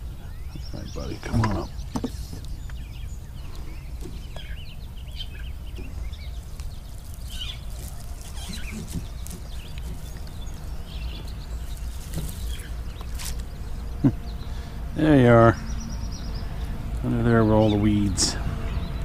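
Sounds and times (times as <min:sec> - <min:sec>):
birds chirping and calling: 0:00.0 - 0:19.0
steady low rumble: 0:00.0 - 0:19.0.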